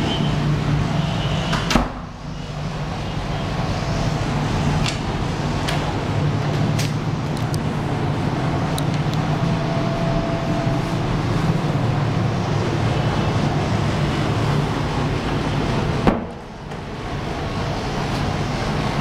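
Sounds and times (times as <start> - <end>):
low mechanical hum: 0.0 - 19.0
rushing noise: 0.0 - 19.0.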